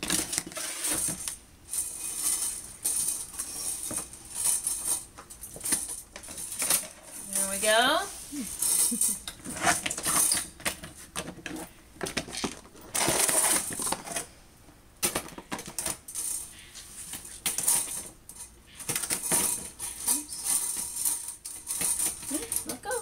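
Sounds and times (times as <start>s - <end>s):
wire cage metal rattling: 0.0s - 10.8s, 15.0s - 23.0s.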